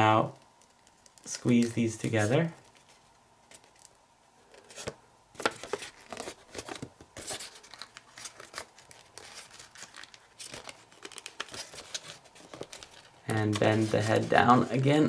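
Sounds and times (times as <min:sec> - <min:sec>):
paper crinkling and crackling: 0:00.3 - 0:15.0.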